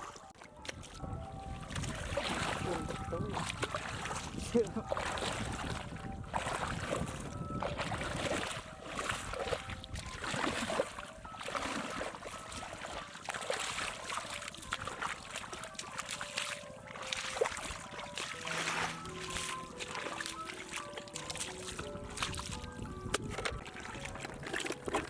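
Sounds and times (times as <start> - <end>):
background music: 0.0 - 25.0
water splashing and trickling: 0.0 - 25.0.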